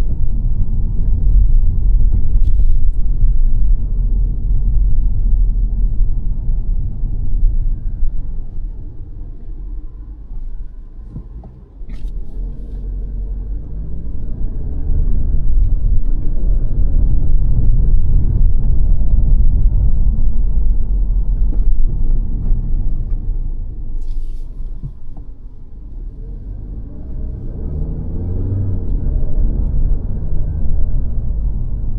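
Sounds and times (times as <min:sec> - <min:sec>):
car engine and tyre rumble: 0:00.0 - 0:31.9.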